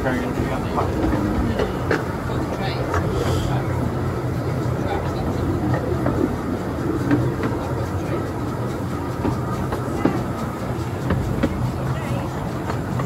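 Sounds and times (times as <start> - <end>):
train rumbling along track: 0.0 - 13.0
train wheel clicks: 0.0 - 13.0.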